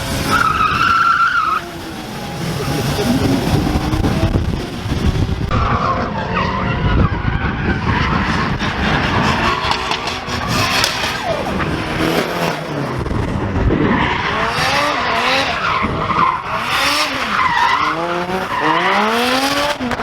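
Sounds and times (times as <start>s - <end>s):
car engines revving: 0.0s - 20.0s
tyres skidding: 0.0s - 20.0s.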